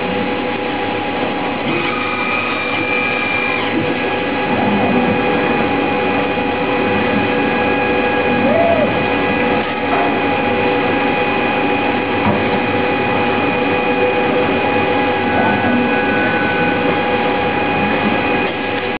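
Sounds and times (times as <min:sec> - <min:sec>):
robotic scanner motor humming: 0:00.0 - 0:18.5.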